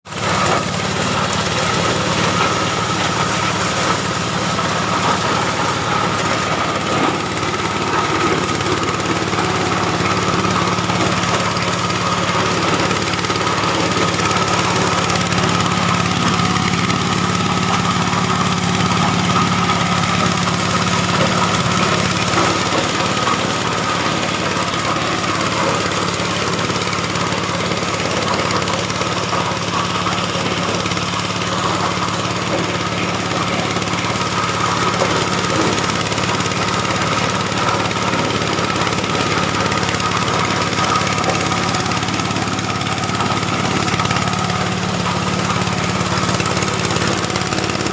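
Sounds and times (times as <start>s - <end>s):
corn sheller engine drone with whine: 0.1s - 47.9s.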